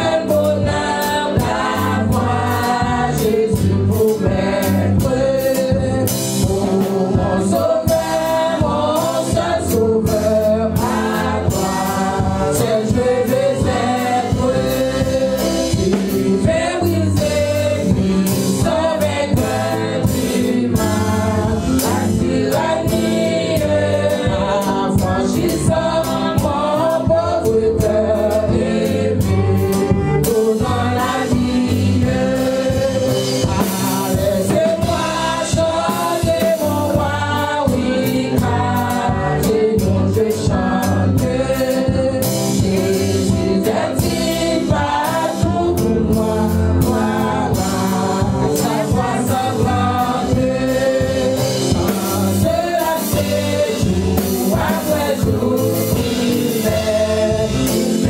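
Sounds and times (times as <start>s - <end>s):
accompaniment with steady beat: 0.0s - 58.0s
women singing gospel song: 0.0s - 58.0s.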